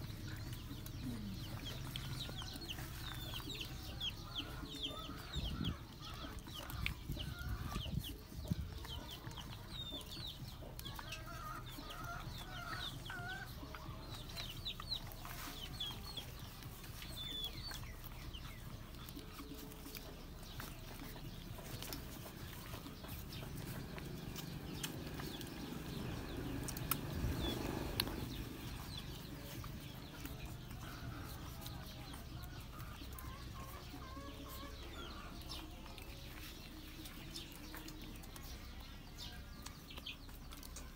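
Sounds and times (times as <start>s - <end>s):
chickens clucking: 0.0s - 40.9s
small birds chirping: 0.0s - 40.9s.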